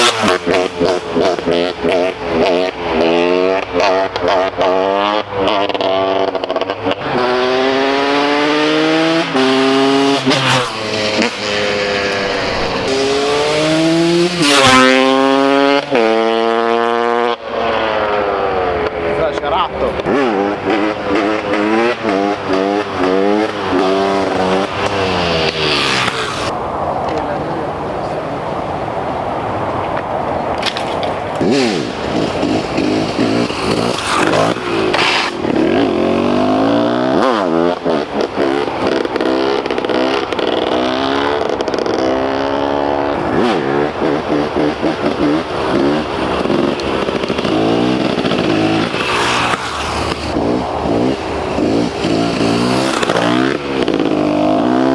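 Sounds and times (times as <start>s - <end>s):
two-stroke motorcycle accelerating: 0.0s - 27.3s, 30.6s - 54.9s.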